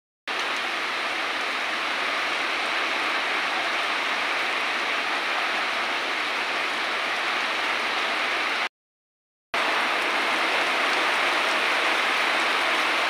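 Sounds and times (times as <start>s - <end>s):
heavy rain on leaves: 0.3s - 8.7s, 9.6s - 13.0s.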